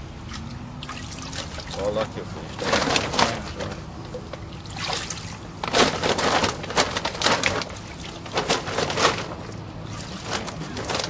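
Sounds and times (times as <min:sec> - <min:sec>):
water splashing in a plastic tub: 0:00.0 - 0:11.0.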